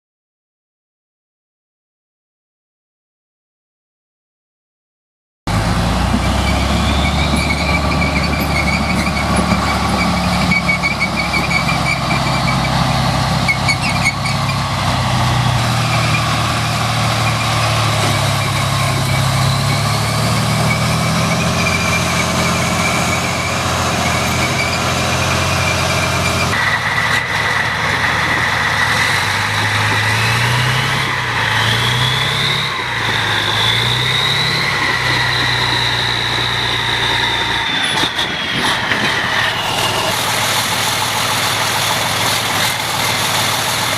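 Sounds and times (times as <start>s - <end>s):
heavy vehicle engine running: 5.5s - 43.9s.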